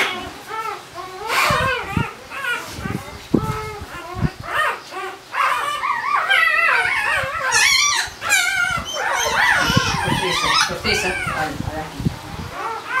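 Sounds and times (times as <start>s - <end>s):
puppy crying with high squeals: 0.0s - 11.6s, 12.5s - 13.0s.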